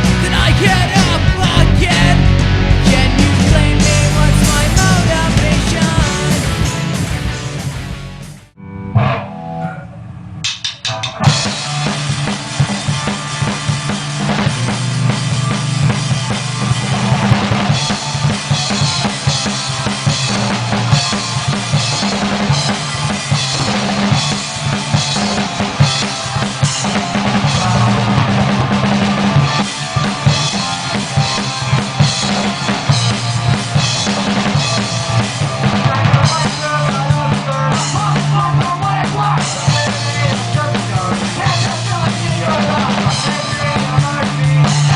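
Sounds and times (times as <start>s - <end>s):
electric guitar: 0.0s - 44.9s
rock band playing: 0.0s - 44.9s.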